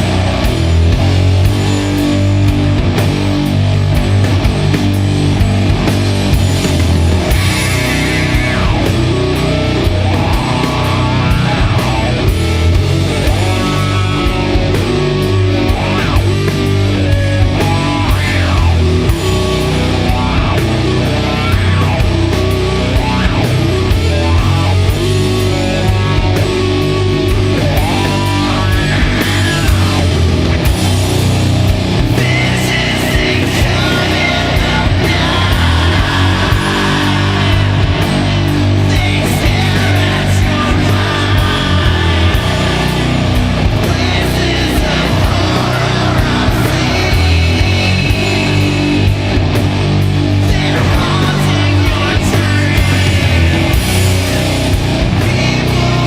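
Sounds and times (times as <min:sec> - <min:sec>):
doom metal with heavy guitars: 0:00.0 - 0:56.0.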